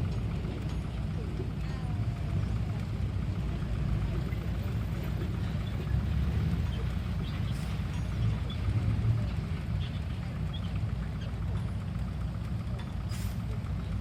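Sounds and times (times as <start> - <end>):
heavy machine engine rumbling: 0.0 - 14.0.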